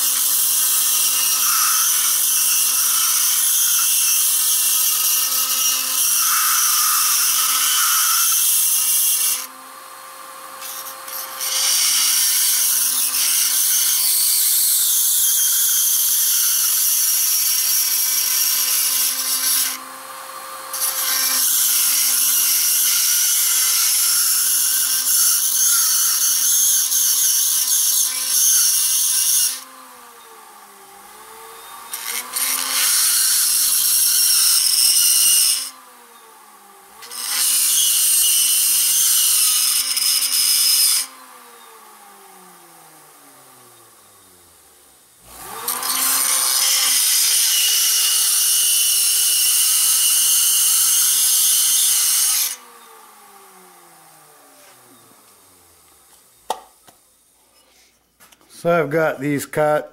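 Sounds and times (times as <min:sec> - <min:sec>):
rotary grinder grinding metal: 0:00.0 - 0:36.2, 0:36.9 - 0:41.6, 0:45.2 - 0:56.4.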